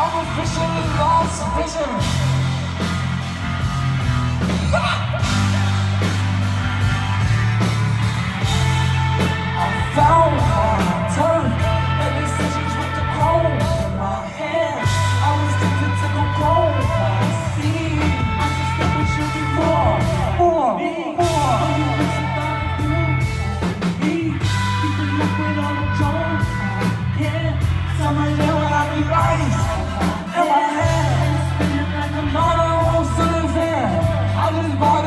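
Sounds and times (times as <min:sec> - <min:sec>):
person singing: 0:00.0 - 0:02.8, 0:08.4 - 0:35.0
deep bass notes: 0:00.0 - 0:20.6, 0:21.2 - 0:35.0.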